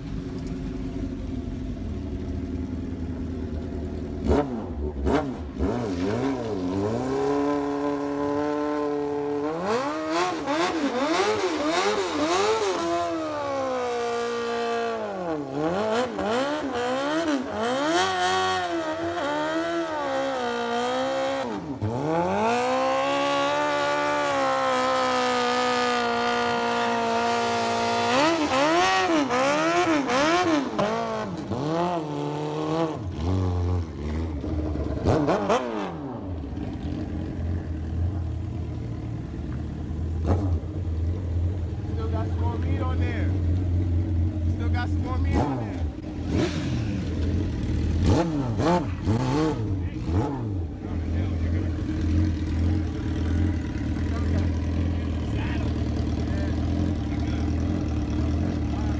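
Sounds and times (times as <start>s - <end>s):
tire spinning on asphalt: 0.0s - 58.9s
motorcycle engine revving hard: 4.2s - 38.0s, 40.1s - 40.9s, 42.2s - 58.9s.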